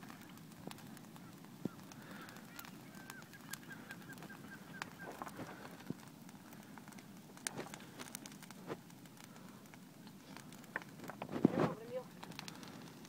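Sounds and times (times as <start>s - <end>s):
log snapping and popping: 0.0s - 13.0s
wood fire crackling: 0.0s - 13.0s.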